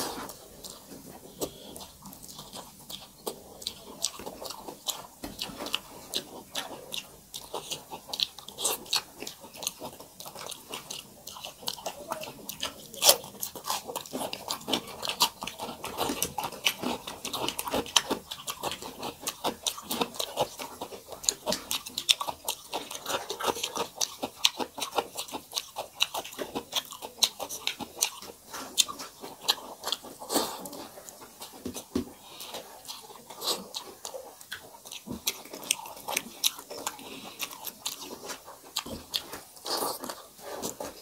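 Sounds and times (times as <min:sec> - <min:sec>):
chewing food: 0:00.0 - 0:41.0.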